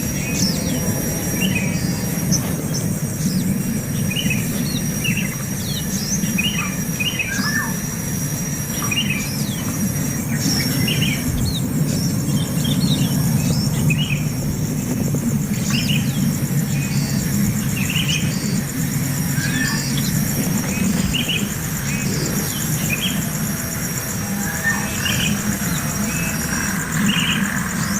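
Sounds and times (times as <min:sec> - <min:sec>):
small birds chirping: 0:00.0 - 0:27.9
steady high-pitched whine: 0:00.0 - 0:27.9.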